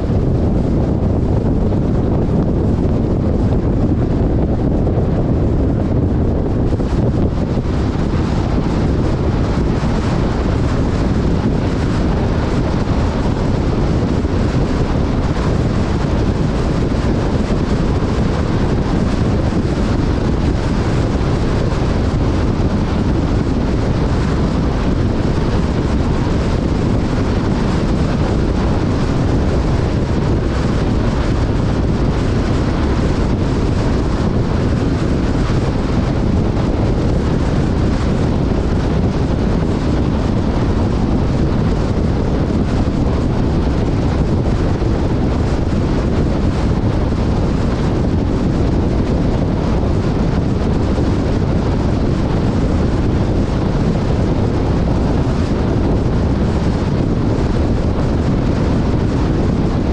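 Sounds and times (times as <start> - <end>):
vehicle engine drone: 0.0 - 59.9
wind on microphone: 0.0 - 59.9.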